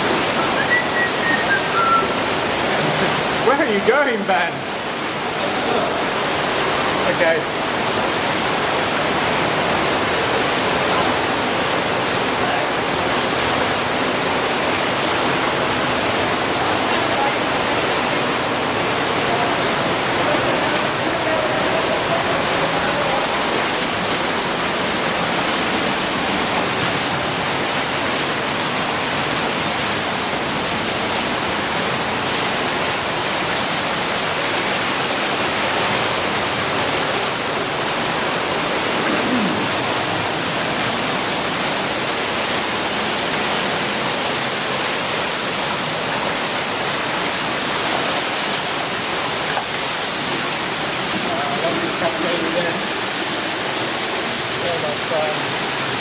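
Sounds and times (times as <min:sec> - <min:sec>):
rushing cave stream: 0:00.0 - 0:56.0.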